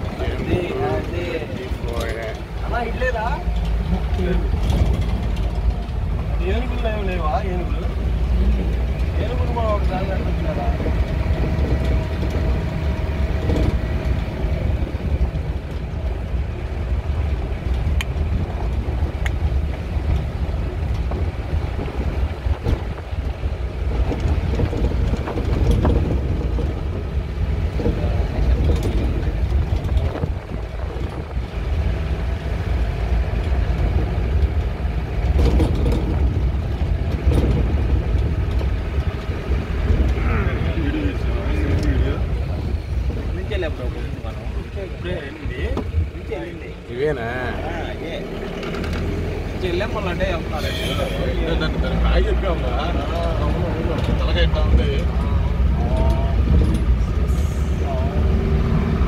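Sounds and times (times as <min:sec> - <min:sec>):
vehicle engine rumble: 0:00.0 - 0:59.0.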